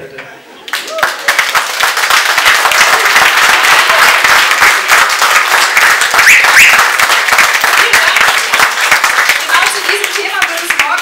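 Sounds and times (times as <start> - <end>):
audience applause: 0.7 - 11.0.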